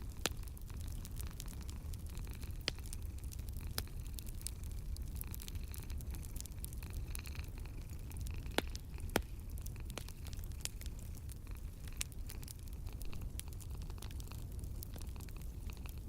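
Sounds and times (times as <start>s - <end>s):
fire pops: 0.0s - 16.0s
low fire rumble: 0.0s - 16.0s
wood fire crackling: 0.0s - 16.0s.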